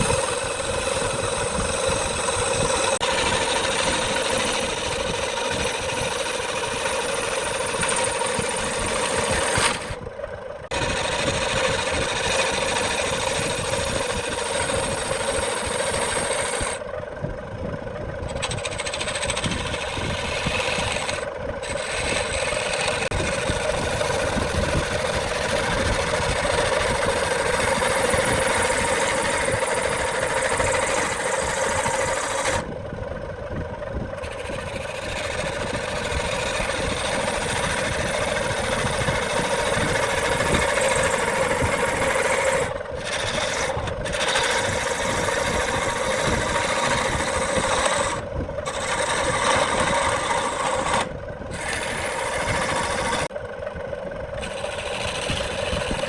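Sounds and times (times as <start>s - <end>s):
tool hissing on spinning wood: 0.0s - 10.0s, 10.7s - 16.8s, 18.3s - 32.7s, 34.1s - 53.3s, 54.4s - 56.0s
wood lathe humming: 0.0s - 56.0s.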